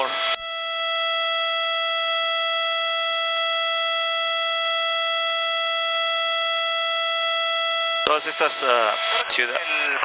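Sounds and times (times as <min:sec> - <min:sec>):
high-pitched electronic tone: 0:00.0 - 0:09.9.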